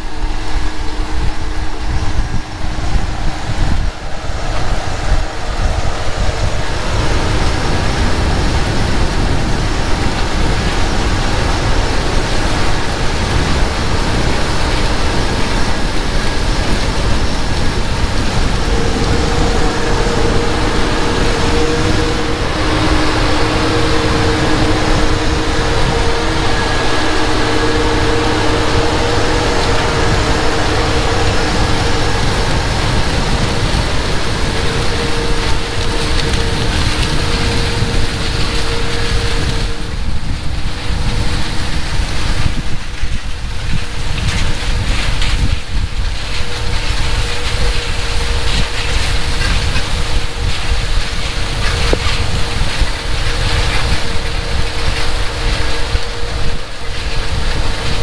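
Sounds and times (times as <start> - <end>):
steady whine: 0.0 - 58.0
tractor engine under load: 0.0 - 58.0
discs rustling and rattling through soil: 6.4 - 58.0.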